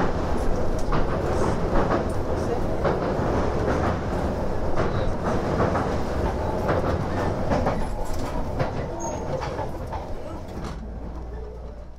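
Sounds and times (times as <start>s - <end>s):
train running rumble: 0.0s - 11.9s.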